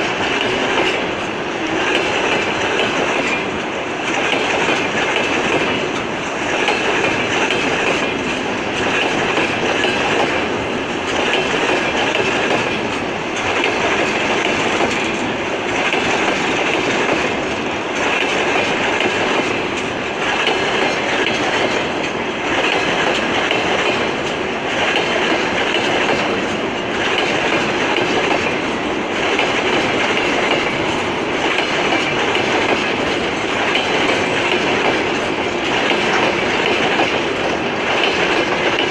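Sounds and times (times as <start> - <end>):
freight train wheels clacking: 0.0 - 38.9.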